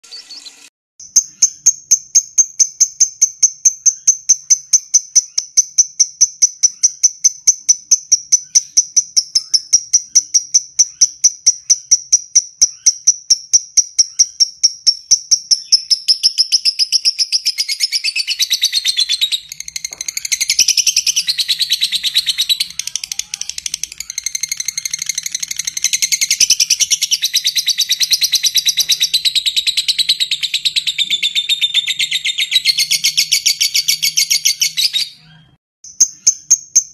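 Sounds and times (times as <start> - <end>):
lovebird chirping and trilling: 0.0 - 36.9.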